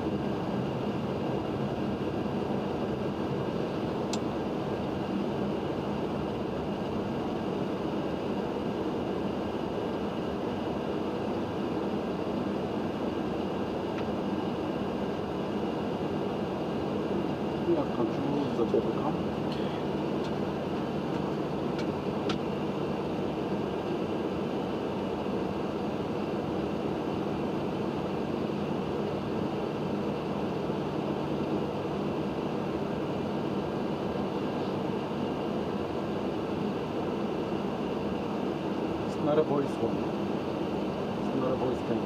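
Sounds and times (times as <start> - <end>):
cockpit fans and airflow hissing: 0.0 - 42.0.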